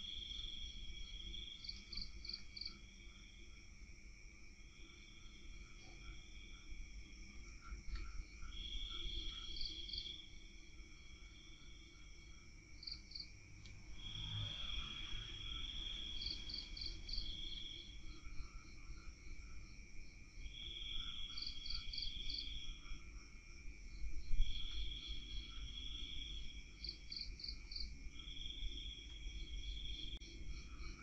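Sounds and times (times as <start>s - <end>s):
insects chirping: 0.0s - 31.0s
insects trilling: 0.0s - 31.0s.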